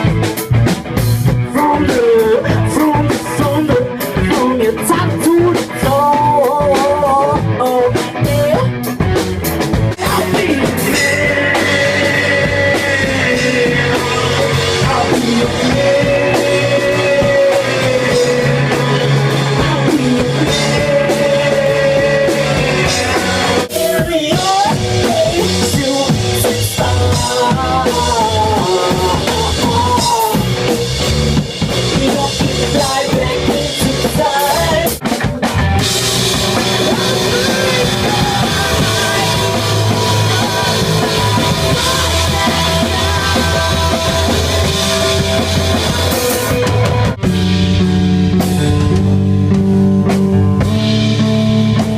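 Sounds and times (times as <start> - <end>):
drum kit: 0.0 - 51.9
live rock band: 0.0 - 51.9.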